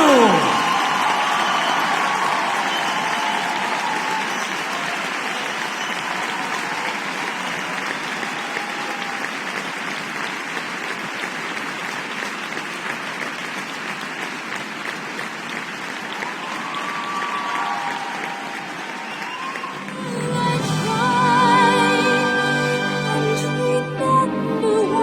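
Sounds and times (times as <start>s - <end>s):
audience applauding: 0.0s - 21.6s.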